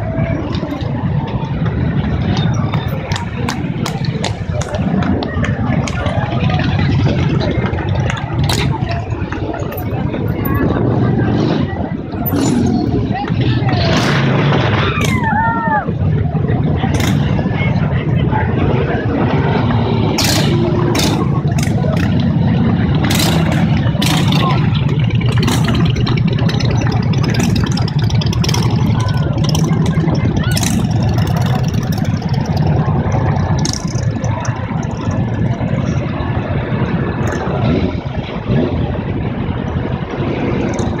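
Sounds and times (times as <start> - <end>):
crowd voices: 0.0 - 41.0
motorcycle engines rumbling: 0.0 - 41.0.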